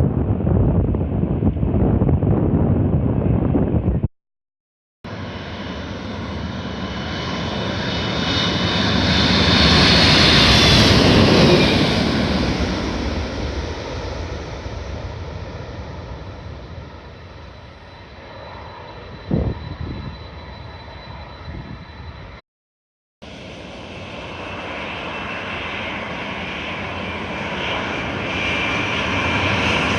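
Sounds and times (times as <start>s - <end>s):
jet airliner passing overhead: 5.1s - 22.4s, 23.2s - 29.9s.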